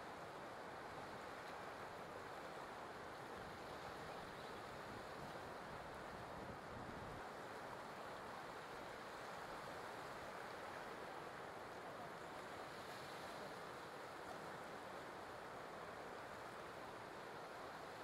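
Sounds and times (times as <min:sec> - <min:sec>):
faint ocean surf: 0:00.0 - 0:18.0.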